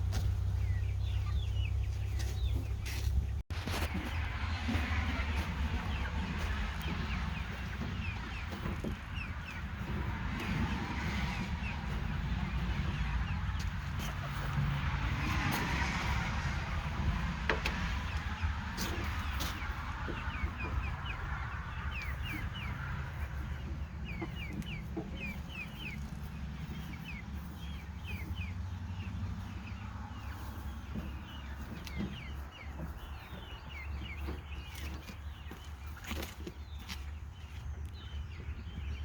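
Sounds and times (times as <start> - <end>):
steady low rumble: 0.0 - 35.4
birds chirping: 0.0 - 39.0.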